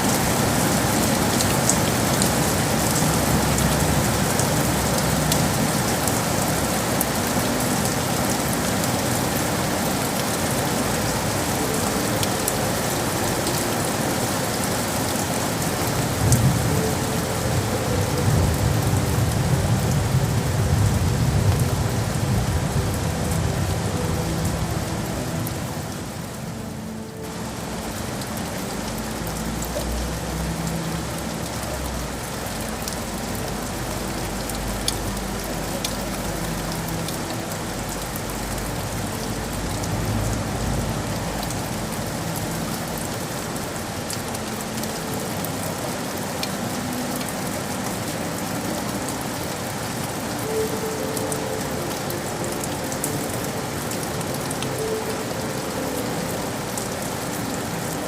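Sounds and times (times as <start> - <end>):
rain pattering on hard surfaces: 0.0 - 58.0.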